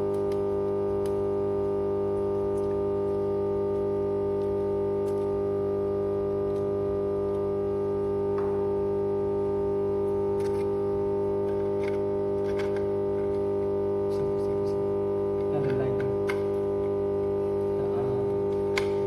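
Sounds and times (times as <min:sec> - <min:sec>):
transformer electrical hum: 0:00.0 - 0:19.0.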